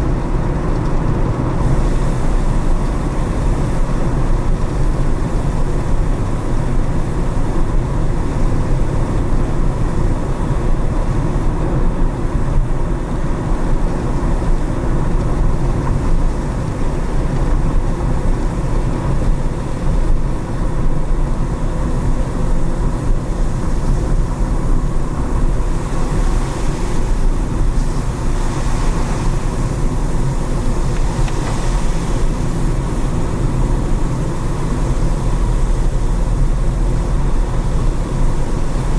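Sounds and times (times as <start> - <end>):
road and engine rumble: 0.0 - 38.9
tyre hiss on wet road: 1.4 - 38.9.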